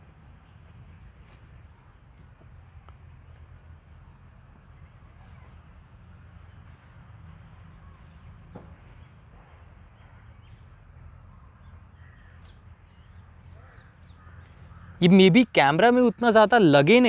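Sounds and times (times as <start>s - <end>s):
steady low rumble: 0.0s - 15.0s
distant bird calls: 0.0s - 17.0s.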